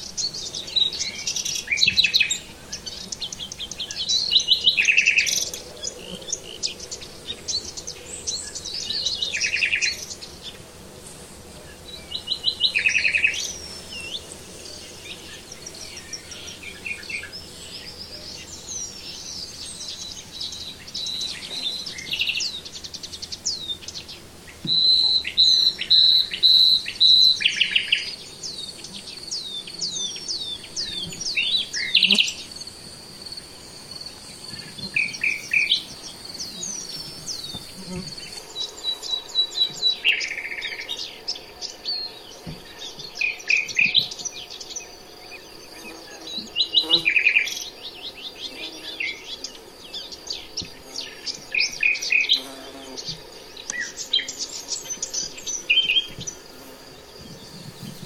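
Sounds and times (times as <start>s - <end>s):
birds chirping and singing: 0.0s - 10.6s, 11.6s - 58.0s.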